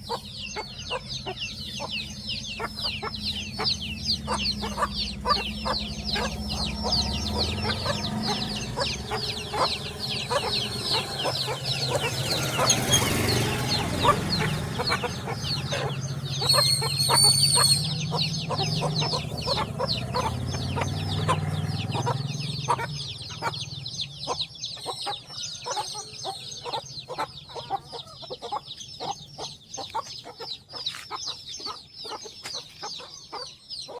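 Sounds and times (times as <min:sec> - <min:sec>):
chicks peeping: 0:00.0 - 0:34.0
hen clucking: 0:00.0 - 0:34.0
loud high bird call: 0:00.0 - 0:34.0.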